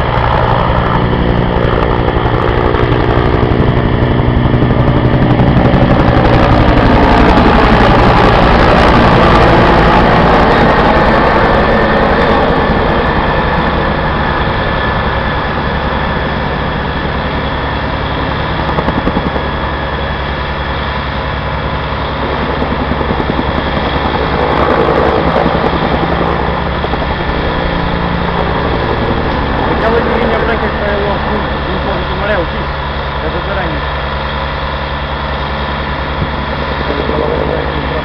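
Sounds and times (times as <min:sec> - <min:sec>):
helicopter rotor chopping: 0:00.0 - 0:38.0.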